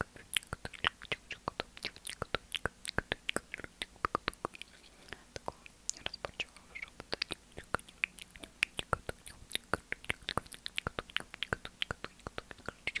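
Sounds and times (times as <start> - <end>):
wet lip and tongue clicks: 0.0 - 13.0.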